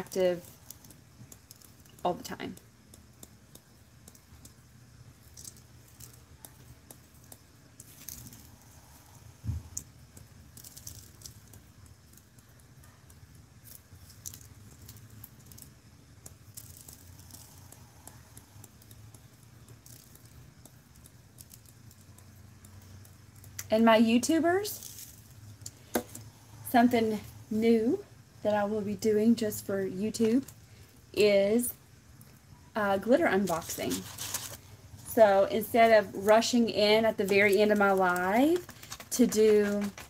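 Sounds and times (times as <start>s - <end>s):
glitter rattling on tumbler: 0.0s - 40.0s
low steady hum: 0.0s - 40.0s.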